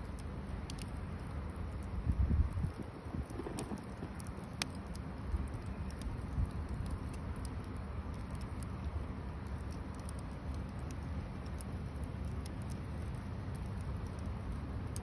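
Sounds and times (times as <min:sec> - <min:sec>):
campfire crackling and popping: 0:00.0 - 0:15.0
steady low rumble: 0:00.0 - 0:15.0.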